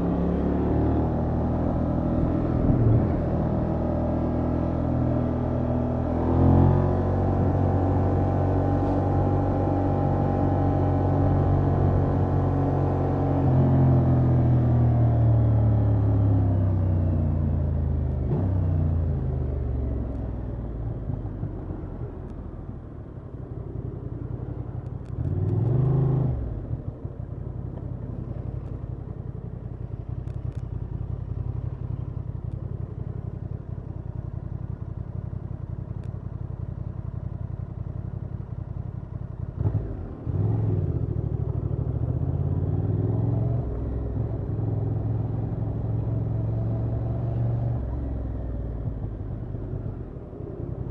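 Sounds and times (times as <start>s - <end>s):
motorcycle engine revving and idling: 0.0s - 50.9s.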